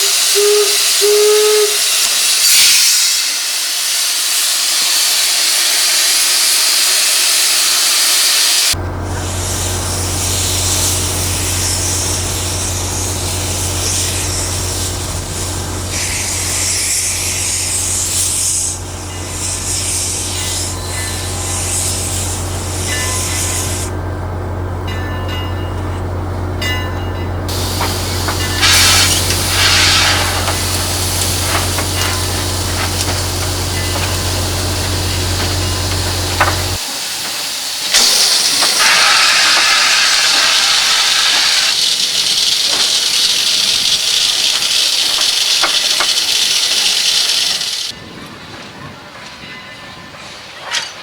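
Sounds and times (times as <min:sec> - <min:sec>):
steam hissing: 0:00.0 - 0:24.0, 0:27.5 - 0:48.5
steam locomotive rumble: 0:00.0 - 0:51.0.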